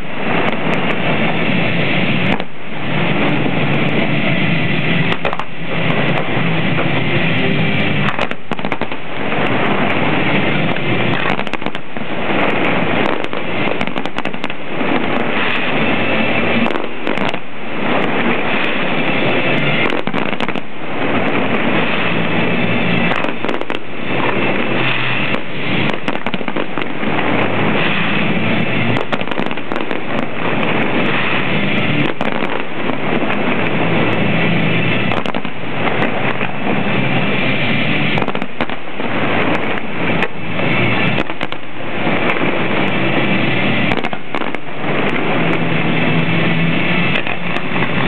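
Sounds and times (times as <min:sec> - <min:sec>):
firework shells bursting: 0:00.0 - 0:48.0.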